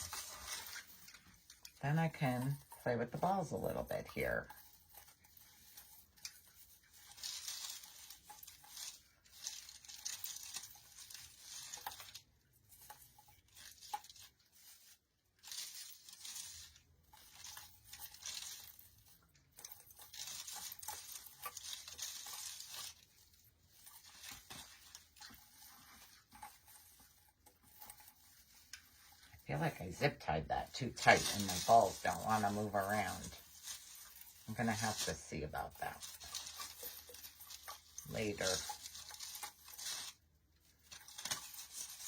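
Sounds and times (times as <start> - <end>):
artificial pine rustling and crinkling: 0.0 - 42.0.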